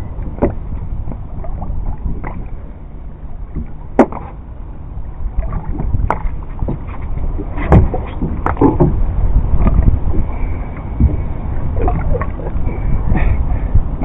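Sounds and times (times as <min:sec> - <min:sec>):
small boat engine rumble: 0:00.0 - 0:14.0.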